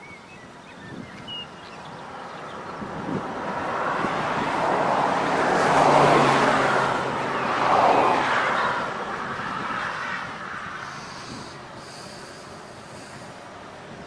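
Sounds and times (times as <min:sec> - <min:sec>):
car passing: 0:01.7 - 0:14.0.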